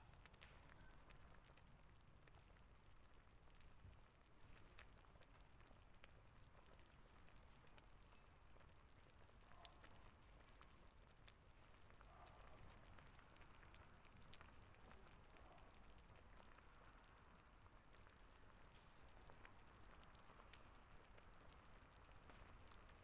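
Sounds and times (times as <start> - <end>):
soft hiss: 0.0 - 23.0
faint light ticks: 0.1 - 23.0.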